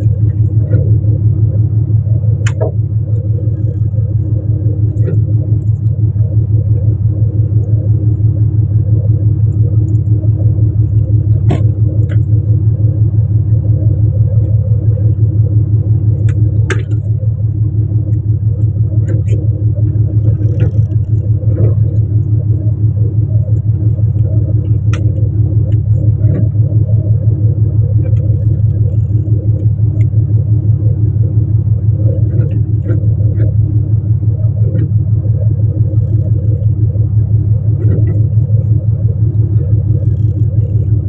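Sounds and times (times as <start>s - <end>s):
boat engine low rumble: 0.0s - 41.0s.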